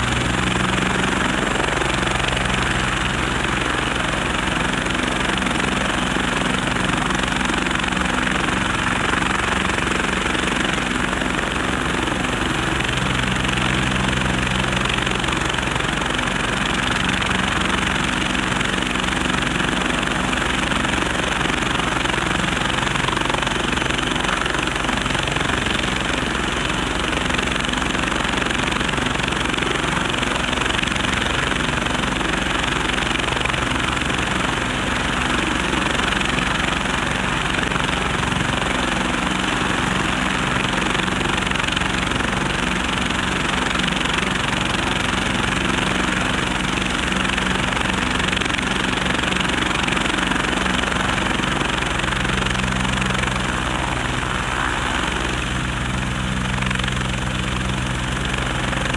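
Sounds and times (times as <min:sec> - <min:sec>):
helicopter turbine rush: 0:00.0 - 0:58.9.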